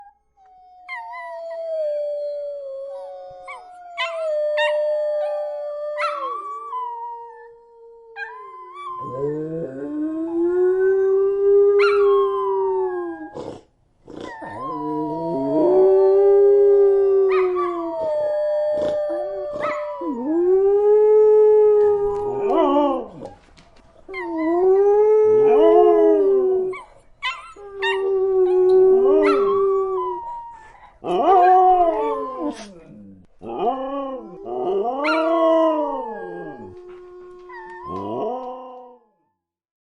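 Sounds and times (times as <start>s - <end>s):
wolves howling: 0.8s - 13.4s, 14.2s - 23.4s, 24.1s - 39.1s.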